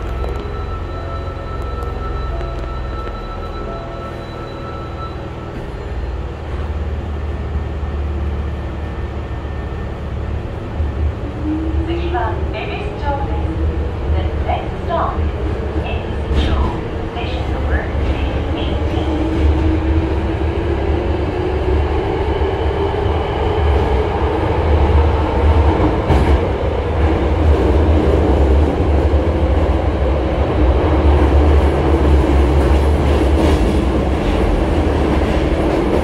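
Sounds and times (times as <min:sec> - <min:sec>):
train motors and wheels rumbling: 0:00.0 - 0:36.0.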